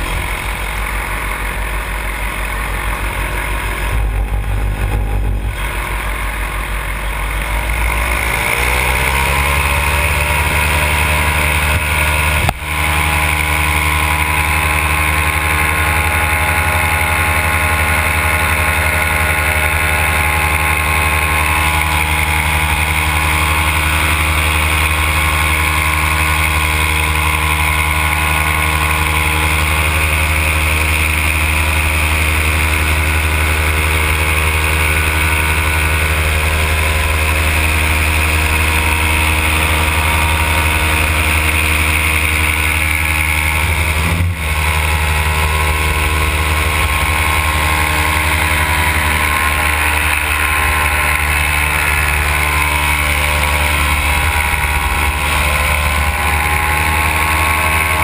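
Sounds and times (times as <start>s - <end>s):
two-stroke engine and propeller: 0.0s - 58.0s.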